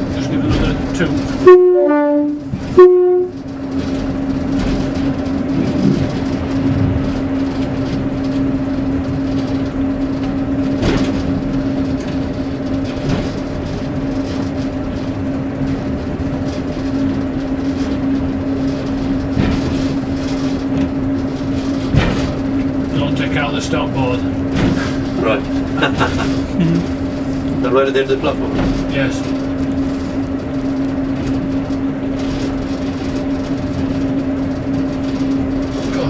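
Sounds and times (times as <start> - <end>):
train engine drone: 0.0 - 36.0.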